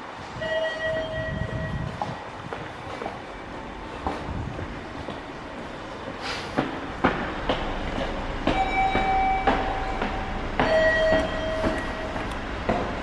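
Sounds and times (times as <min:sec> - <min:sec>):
footsteps on stone floor: 0:01.4 - 0:13.0.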